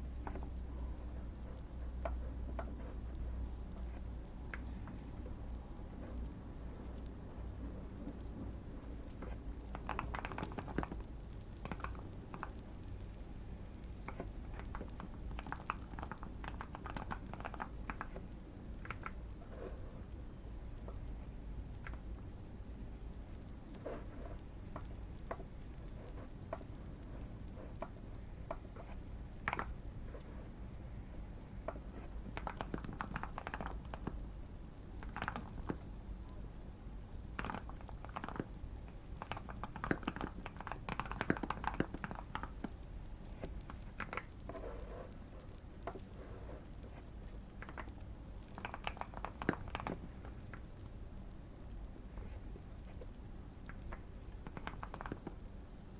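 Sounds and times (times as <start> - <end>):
faint crackling fire: 0.0 - 55.9.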